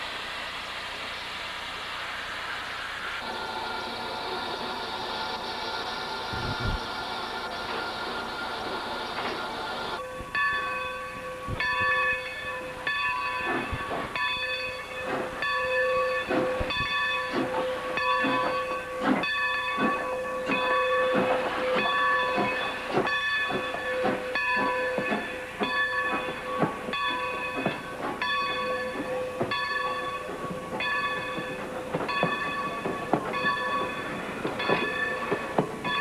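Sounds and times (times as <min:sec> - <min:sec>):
hissing steam: 0:00.0 - 0:10.0, 0:12.7 - 0:36.0
locomotive bell ringing: 0:03.2 - 0:36.0.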